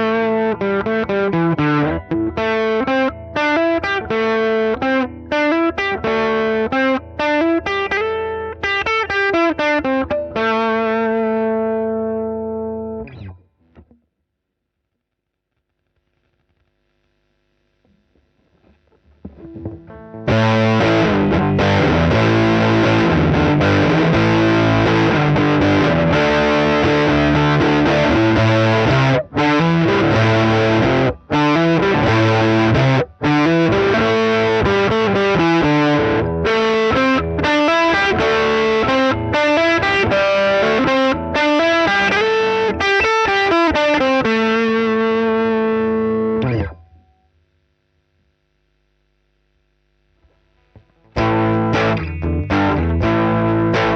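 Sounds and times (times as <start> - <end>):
distorted electric guitar riffs: 0.0 - 14.0, 15.6 - 53.9.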